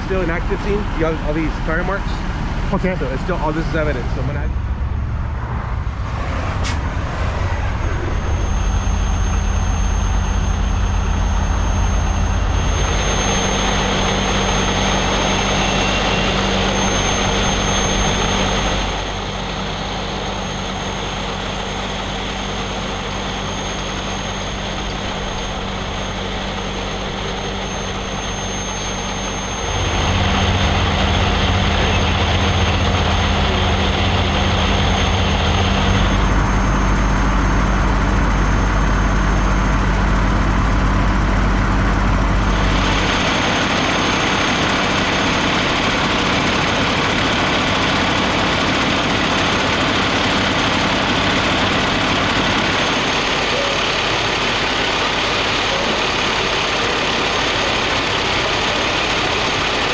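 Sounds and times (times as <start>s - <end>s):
engines droning: 0.0s - 59.9s
thin high whine: 0.0s - 59.9s.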